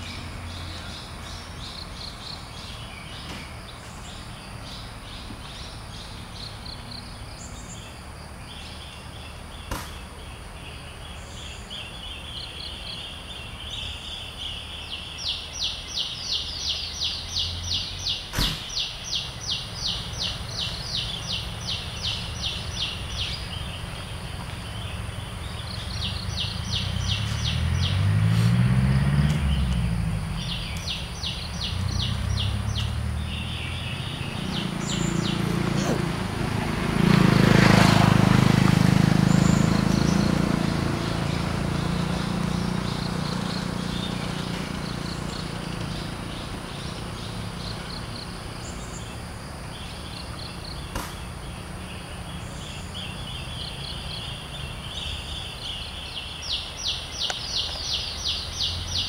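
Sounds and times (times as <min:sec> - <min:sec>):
bird chirping: 0:00.0 - 0:38.4, 0:39.2 - 0:59.0.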